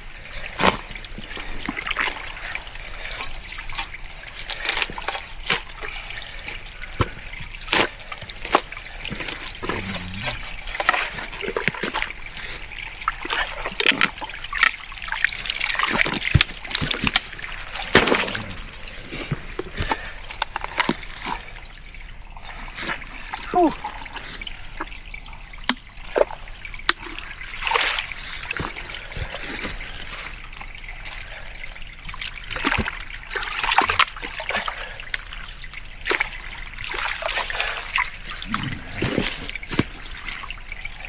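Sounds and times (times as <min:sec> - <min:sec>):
stream water trickling and splashing: 0:00.0 - 0:41.0.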